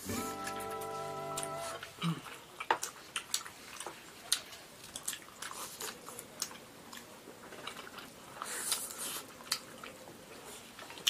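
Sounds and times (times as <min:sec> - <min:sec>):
wet chewing and biting: 0:01.8 - 0:11.0.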